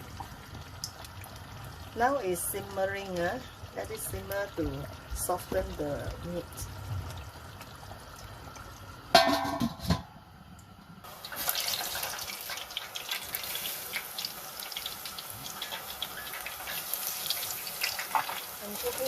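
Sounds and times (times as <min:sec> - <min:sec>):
curry bubbling in a pot: 0:00.0 - 0:09.9, 0:11.0 - 0:19.0.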